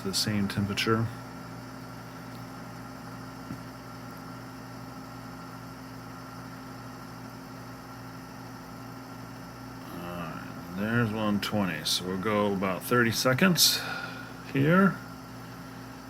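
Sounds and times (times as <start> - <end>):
convection fan motor humming: 0.0 - 16.0.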